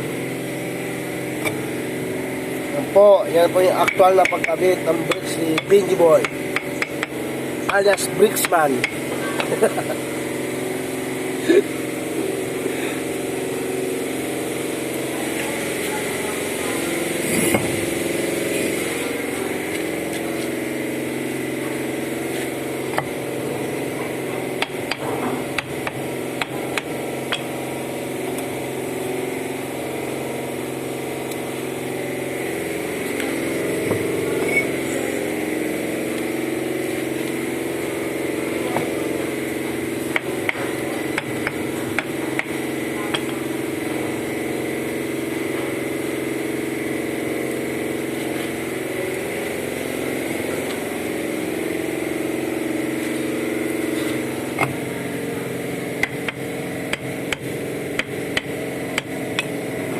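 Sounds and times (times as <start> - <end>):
motor humming: 0.0 - 59.9.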